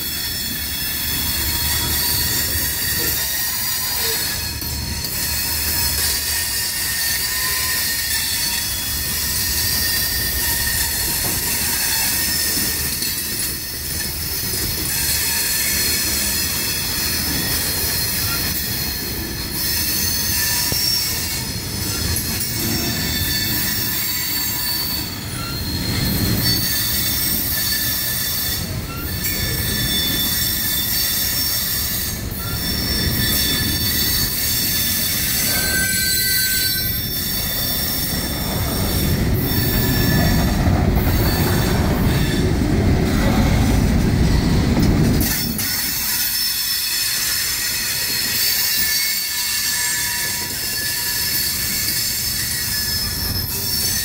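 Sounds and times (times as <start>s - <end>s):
freight cars rumbling on rails: 0.0s - 54.0s
train wheels squealing: 0.0s - 54.0s.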